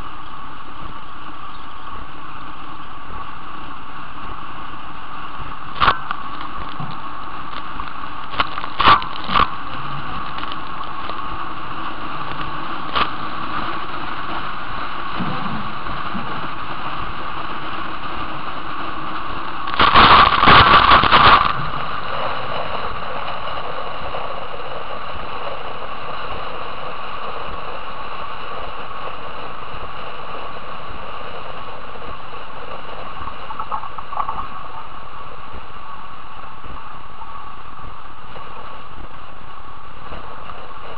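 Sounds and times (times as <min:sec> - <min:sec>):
wind and water rushing past hull: 0:00.0 - 0:40.9.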